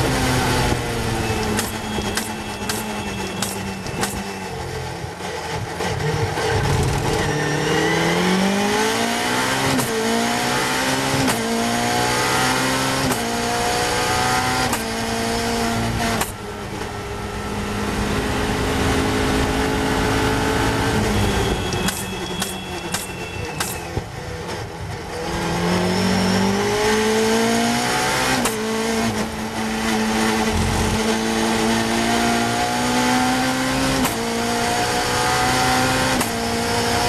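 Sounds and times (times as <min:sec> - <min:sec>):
race car engine accelerating: 0:00.0 - 0:21.5, 0:24.4 - 0:37.0.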